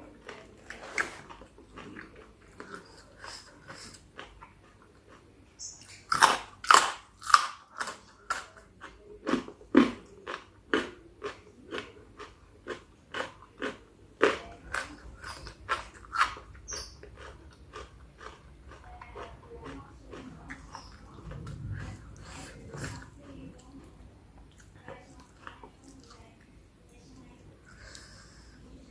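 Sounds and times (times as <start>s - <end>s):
crunchy chewing and mouth clicks: 0.0s - 26.4s.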